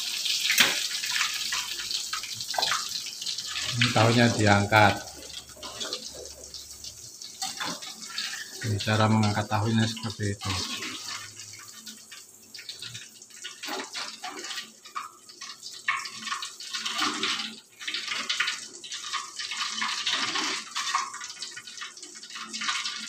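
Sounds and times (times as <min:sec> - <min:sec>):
hot oil sizzling and crackling: 0:00.0 - 0:23.0.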